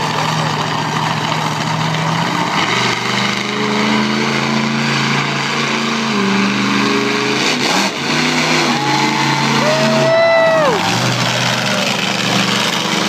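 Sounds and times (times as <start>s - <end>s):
loud truck engine running: 0.0s - 13.0s.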